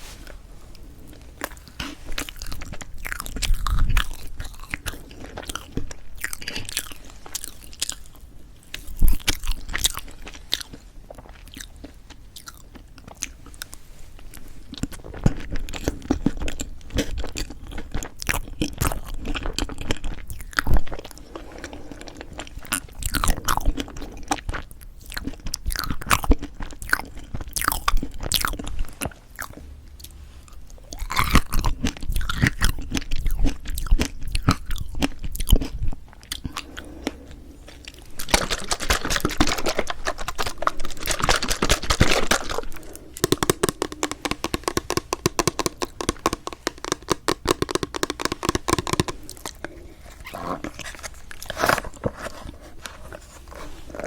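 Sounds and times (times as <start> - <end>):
wet chewing: 0.7 - 30.2, 30.9 - 54.0.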